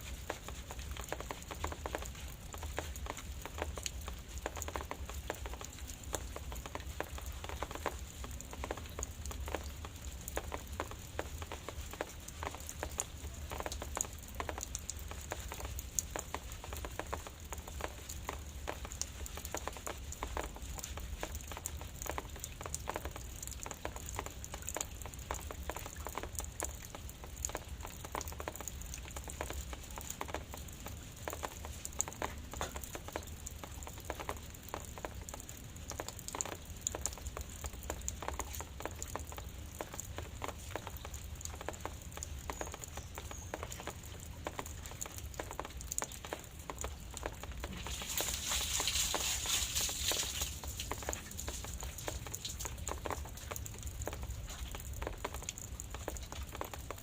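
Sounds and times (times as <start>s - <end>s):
drizzle drops ticking: 0.0s - 57.0s.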